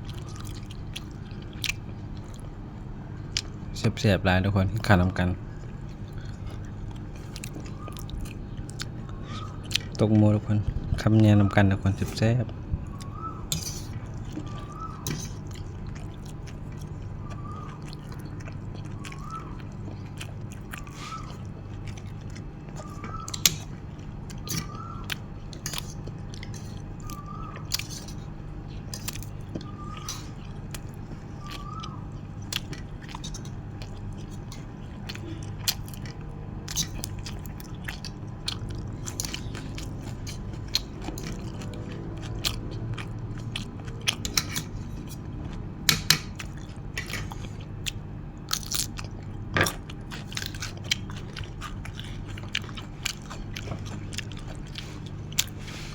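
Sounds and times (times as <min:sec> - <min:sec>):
person chewing food: 0:00.0 - 0:03.7, 0:05.1 - 0:11.1, 0:11.7 - 0:55.9
steady low hum: 0:00.0 - 0:55.9.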